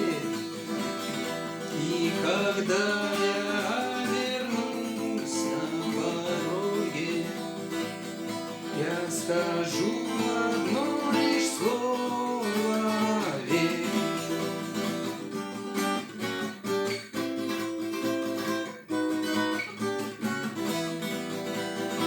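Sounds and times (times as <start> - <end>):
acoustic guitar strummed and picked: 0.0 - 22.0.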